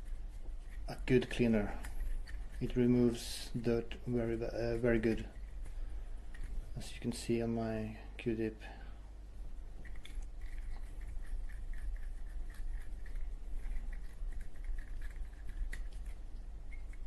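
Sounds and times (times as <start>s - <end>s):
cotton swab scratchy rubbing: 0.0s - 7.0s, 9.8s - 17.0s.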